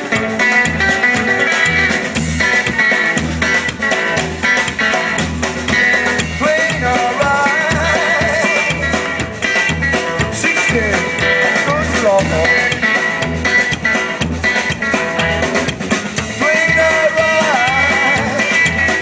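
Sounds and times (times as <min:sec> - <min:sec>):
drum kit: 0:00.0 - 0:19.0
electric guitar: 0:00.0 - 0:19.0
upright double bass: 0:00.0 - 0:19.0.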